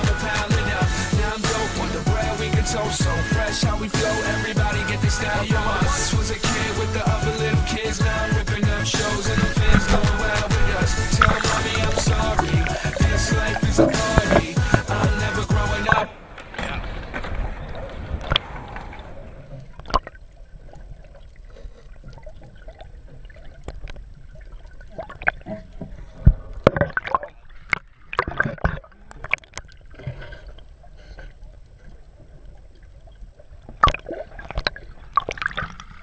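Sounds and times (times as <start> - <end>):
muffled water gurgling underwater: 0.0 - 36.0.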